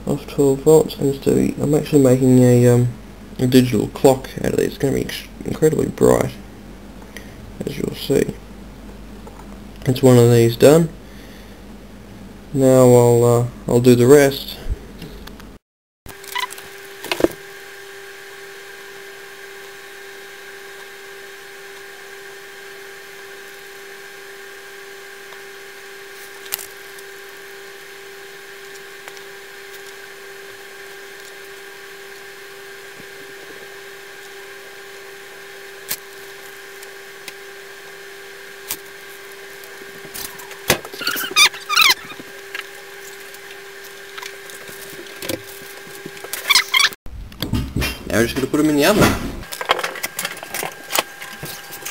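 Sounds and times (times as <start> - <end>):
electrical whine: 0.0 - 51.9.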